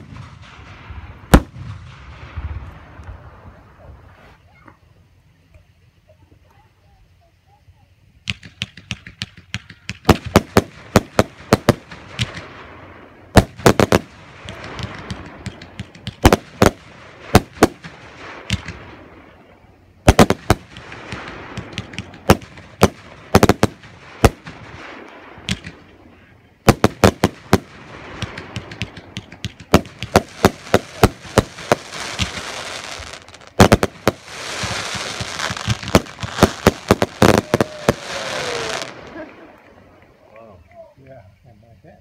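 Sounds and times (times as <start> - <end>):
fireworks bursting with sharp bangs: 0.0 - 5.1, 8.1 - 40.4
fireworks crackling: 0.0 - 5.8, 7.5 - 41.4.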